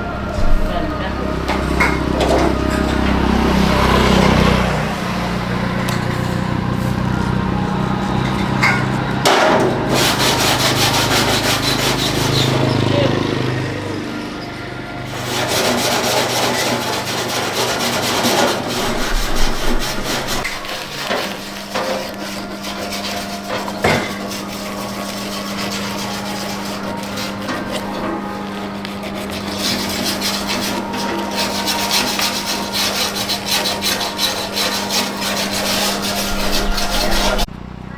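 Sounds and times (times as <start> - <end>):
fast scraping strokes: 0.3 - 37.5.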